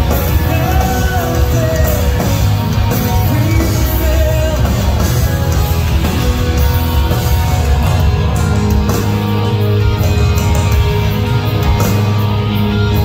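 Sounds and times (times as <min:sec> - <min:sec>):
heavy rock band playing: 0:00.0 - 0:13.0.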